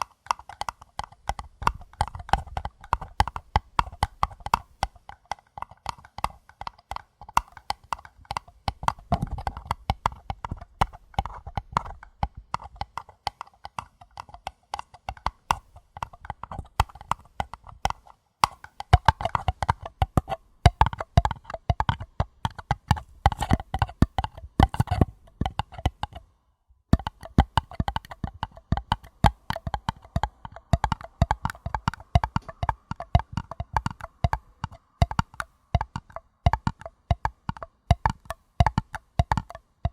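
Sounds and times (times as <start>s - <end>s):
paper cups tapped: 0.0s - 26.2s, 26.9s - 39.9s.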